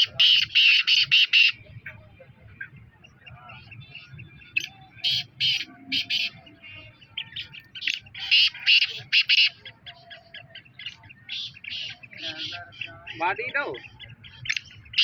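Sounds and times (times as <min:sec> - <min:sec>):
partridges squawking: 0:00.0 - 0:02.0, 0:02.6 - 0:15.0.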